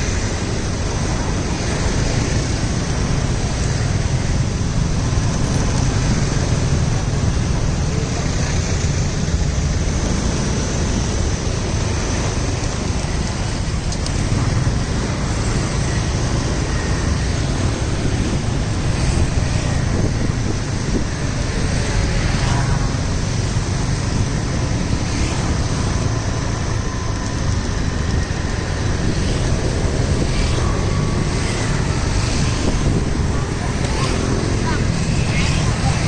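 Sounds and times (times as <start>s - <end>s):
road traffic noise: 0.0s - 36.0s
wind buffeting microphone: 0.0s - 36.0s.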